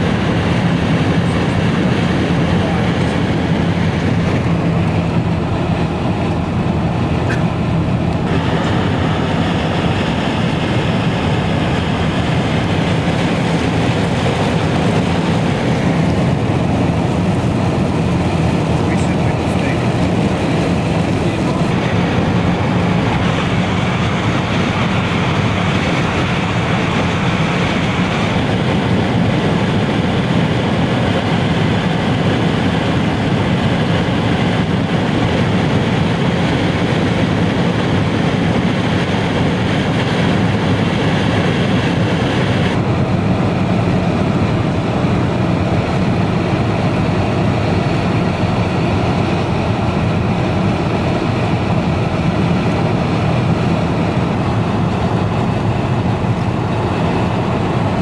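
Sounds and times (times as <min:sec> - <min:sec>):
car driving noise inside: 0:00.0 - 0:58.0.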